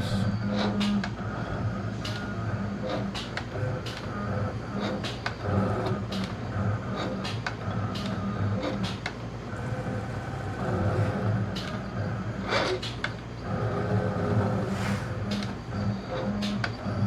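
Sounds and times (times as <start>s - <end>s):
cutter motors humming and whining: 0.0s - 17.0s.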